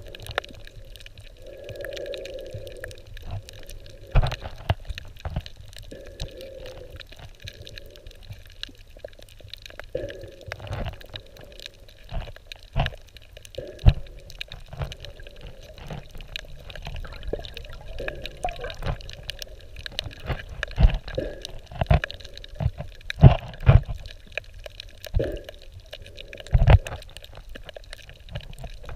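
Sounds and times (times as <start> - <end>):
underwater water sloshing and bubbling: 0.0 - 28.9.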